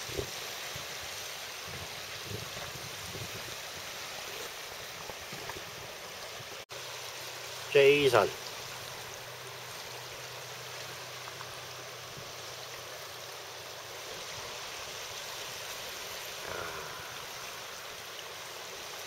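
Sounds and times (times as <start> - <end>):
outdoor ambience hiss by water: 0.0 - 19.0.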